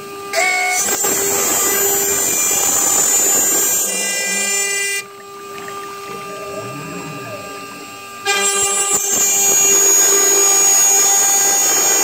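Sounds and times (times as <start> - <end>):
router spindle whine: 0.0 - 12.0
bit cutting carbon fiber: 0.4 - 12.0.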